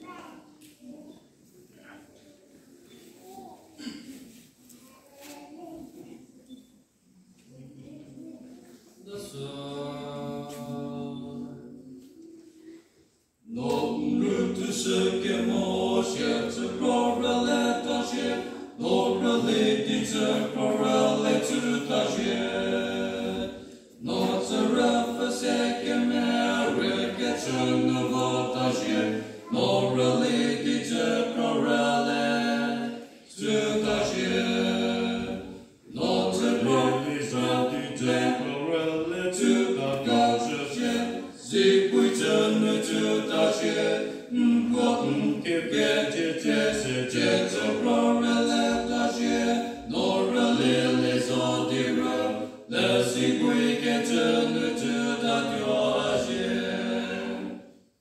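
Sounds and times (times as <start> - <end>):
male trio singing in harmony: 9.0 - 11.9, 13.5 - 57.8.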